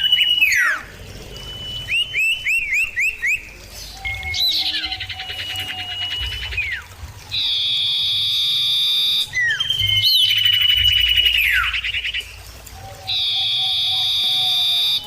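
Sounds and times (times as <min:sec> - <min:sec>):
bird giving long whistles: 0:00.0 - 0:03.4, 0:04.0 - 0:11.9, 0:12.8 - 0:15.0.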